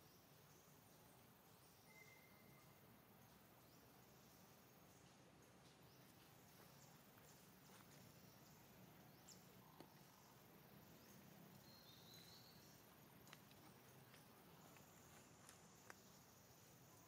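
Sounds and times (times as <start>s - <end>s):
faint high chirp: 0.0s - 5.2s, 6.0s - 17.0s
faint outdoor ambience: 0.0s - 17.0s.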